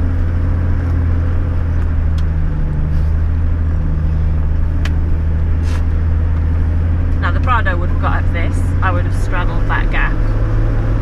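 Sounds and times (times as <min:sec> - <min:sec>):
engine drone inside vehicle cabin: 0:00.0 - 0:11.0.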